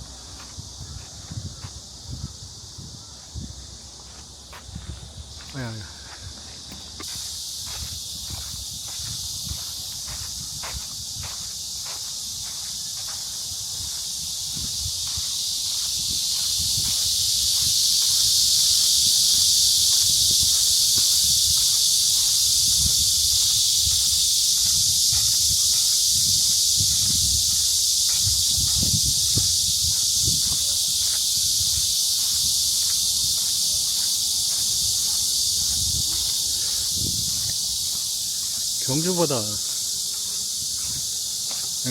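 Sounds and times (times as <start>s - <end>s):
cicadas buzzing: 0.0s - 41.9s
footsteps on a path: 0.0s - 41.9s.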